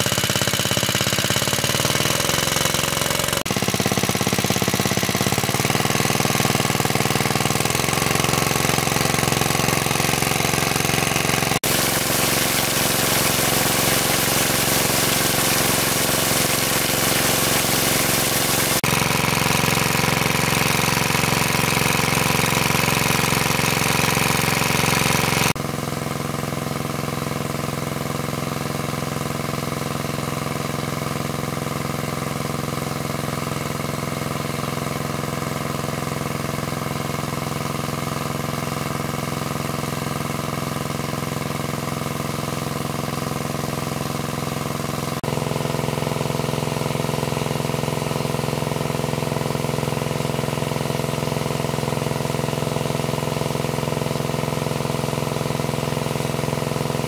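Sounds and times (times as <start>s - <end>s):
water pump engine running: 0.0s - 57.0s.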